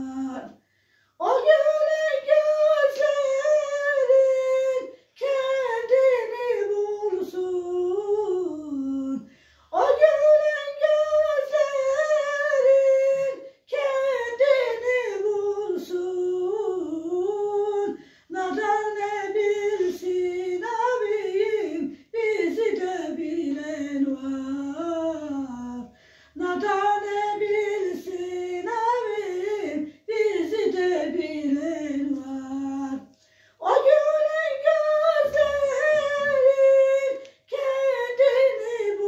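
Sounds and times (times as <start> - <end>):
woman singing unaccompanied: 0.0 - 0.6, 1.2 - 39.0.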